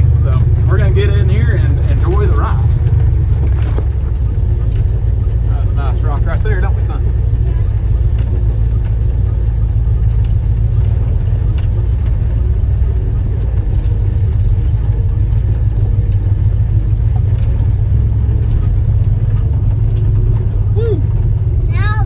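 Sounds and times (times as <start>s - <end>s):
engine rumbling at low speed: 0.0s - 22.0s
clicks and rattles over rocks: 1.8s - 6.0s, 6.6s - 21.7s.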